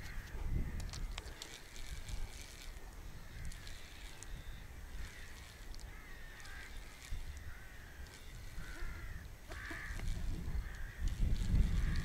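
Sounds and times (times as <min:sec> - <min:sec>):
birds calling: 0:00.0 - 0:12.0
wind rumbling on microphone: 0:00.0 - 0:12.0.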